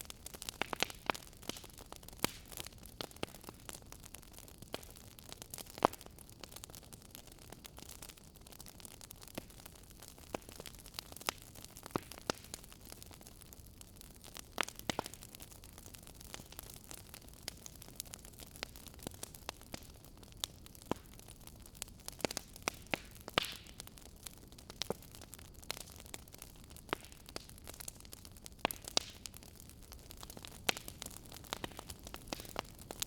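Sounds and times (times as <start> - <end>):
fire hissing softly: 0.0 - 33.0
wood fire crackling and popping: 0.0 - 33.0.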